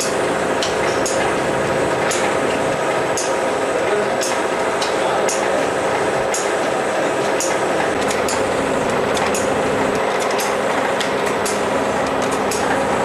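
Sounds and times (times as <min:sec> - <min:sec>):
sharp machine clicks: 0:00.0 - 0:03.5, 0:04.2 - 0:06.7, 0:07.3 - 0:12.8
packaging machine hum: 0:00.0 - 0:13.0.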